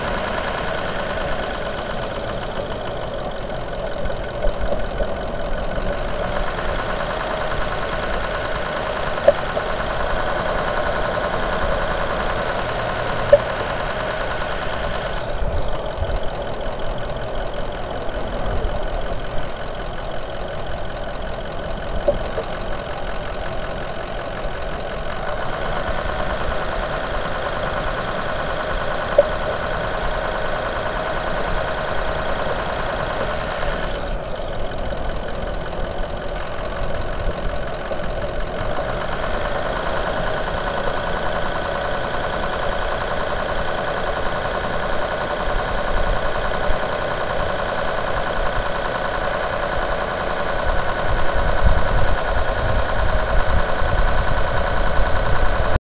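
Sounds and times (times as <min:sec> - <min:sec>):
diesel engine idling: 0:00.0 - 0:55.8.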